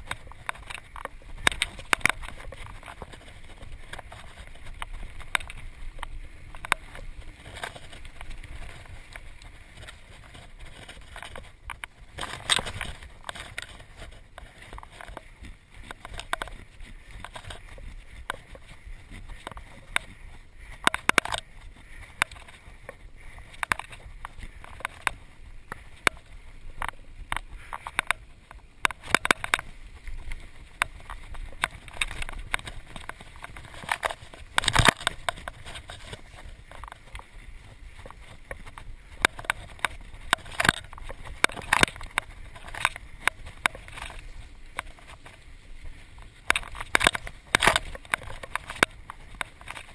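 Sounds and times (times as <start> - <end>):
bike clacking and rattling: 0.0 - 49.9
bike tyres rushing on dirt: 0.0 - 49.9.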